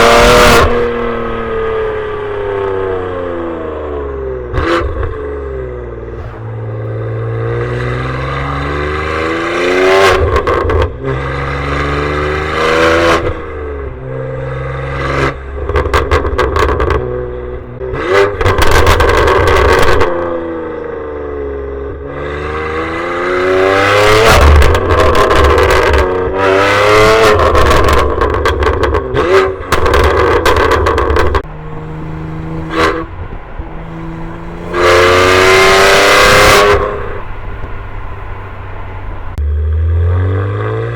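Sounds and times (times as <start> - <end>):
car engine accelerating hard: 0.0 - 40.9.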